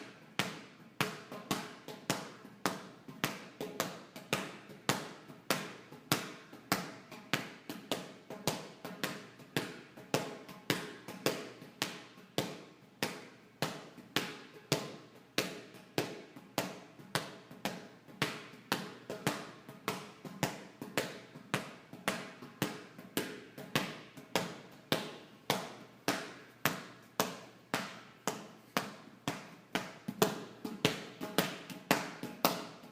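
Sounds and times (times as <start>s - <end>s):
ball bouncing on floor: 0.4s - 32.9s.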